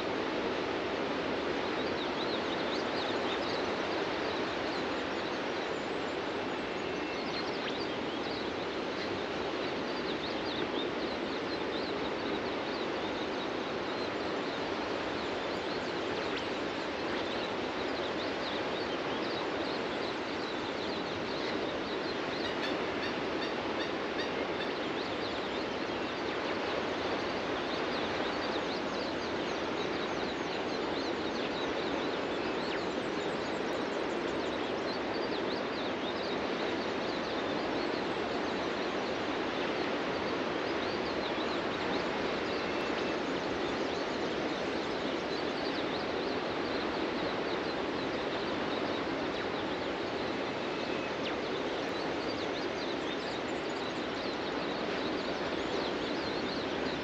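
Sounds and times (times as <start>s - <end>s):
ocean surf breaking on a beach: 0.0s - 57.0s
birds chirping: 1.2s - 57.0s.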